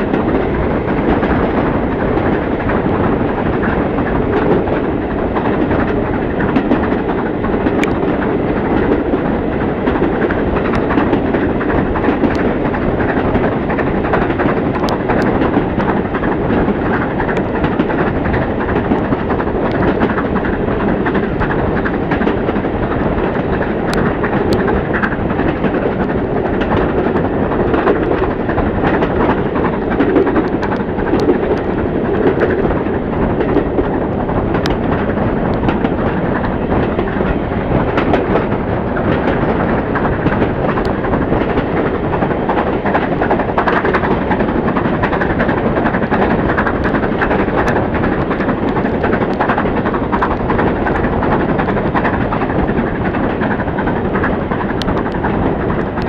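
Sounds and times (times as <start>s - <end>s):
train rushing at speed: 0.0s - 56.0s.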